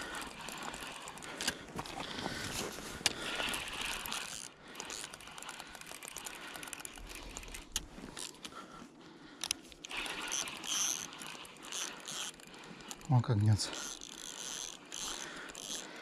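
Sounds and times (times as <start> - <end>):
fishing reel whirring and ratcheting: 0.0 - 8.7, 9.3 - 16.0
reel clicks: 0.0 - 16.0.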